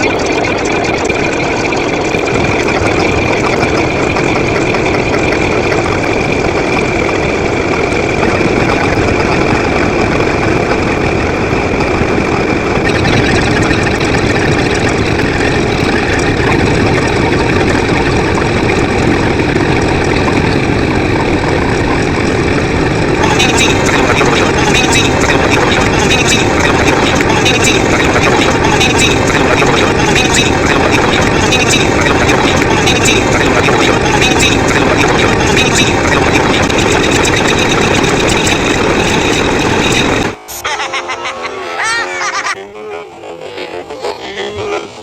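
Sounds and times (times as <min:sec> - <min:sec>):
loud engine-like running noise: 0:00.0 - 0:45.0.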